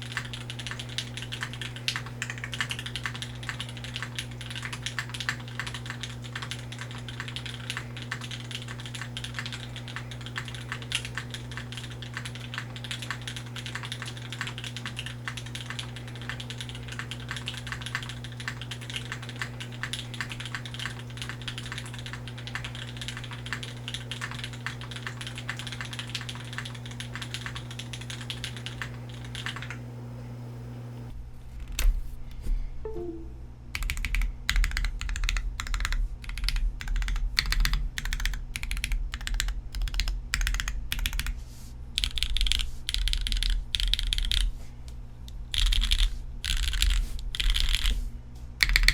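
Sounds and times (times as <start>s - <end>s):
mechanical keyboard typing: 0.0s - 29.8s, 33.7s - 41.4s, 42.0s - 44.5s, 45.5s - 48.0s, 48.6s - 48.9s
steady low hum: 0.0s - 48.9s.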